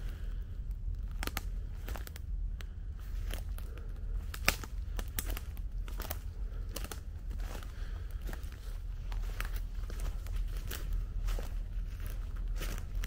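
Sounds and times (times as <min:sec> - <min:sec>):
footsteps crunching through undergrowth: 0:00.0 - 0:13.0
steady low rumble: 0:00.0 - 0:13.0
twigs and leaves snapping: 0:00.0 - 0:13.0.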